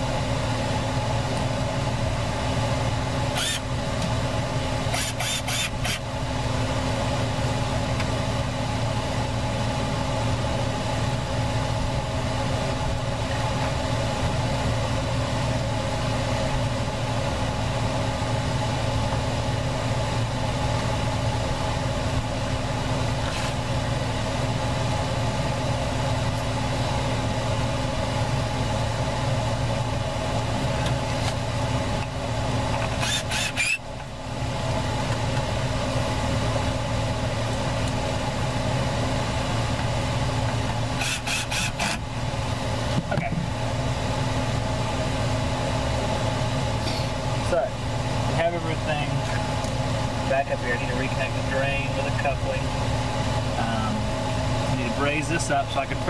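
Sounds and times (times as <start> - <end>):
electric fan humming: 0.0 - 56.0.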